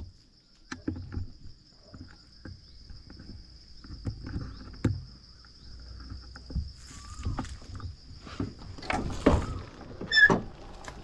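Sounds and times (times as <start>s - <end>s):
insects buzzing: 0.0s - 11.0s
knocks and rustles: 0.0s - 11.0s.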